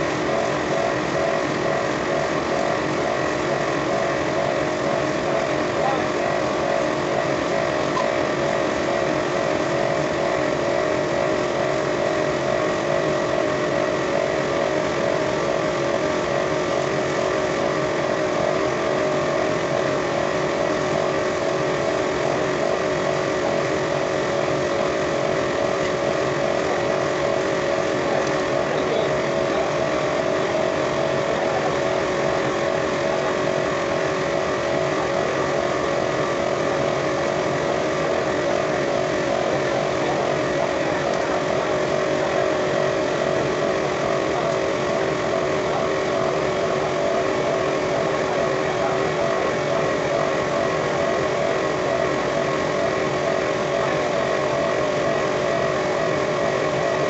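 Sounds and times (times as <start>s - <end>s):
machine droning hum: 0.0s - 57.0s.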